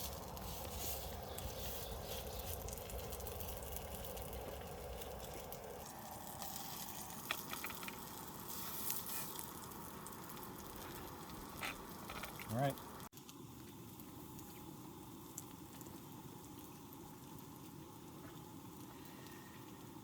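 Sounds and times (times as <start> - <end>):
burgers sizzling in a frying pan: 0.0 - 20.0
camp stove burner hissing: 0.0 - 20.0.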